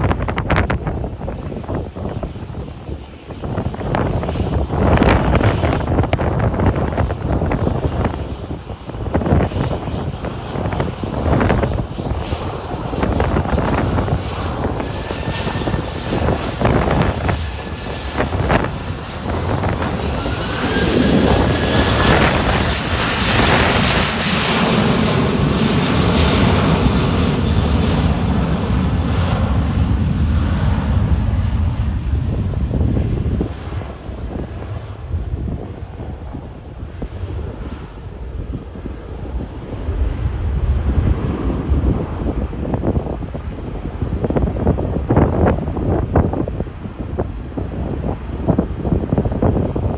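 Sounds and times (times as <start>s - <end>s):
airliner engines whining: 0.0s - 49.9s
wind buffeting microphone: 0.0s - 49.9s.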